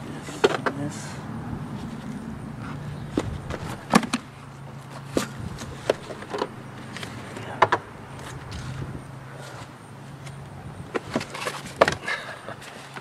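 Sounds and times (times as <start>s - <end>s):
steady low hum: 0.9s - 12.9s.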